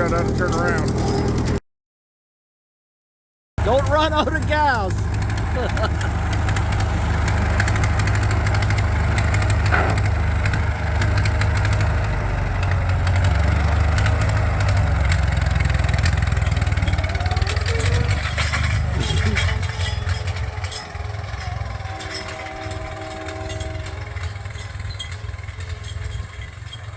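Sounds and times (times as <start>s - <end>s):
tractor engine rumbling: 0.0s - 1.6s, 3.6s - 26.9s.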